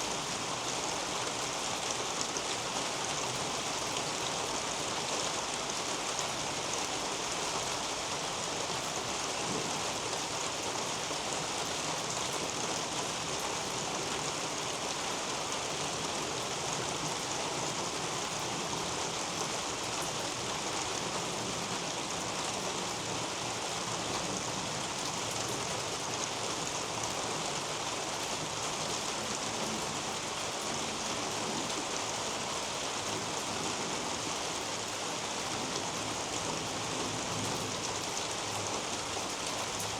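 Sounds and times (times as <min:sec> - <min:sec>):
rain on leaves and roof: 0:00.0 - 0:39.9.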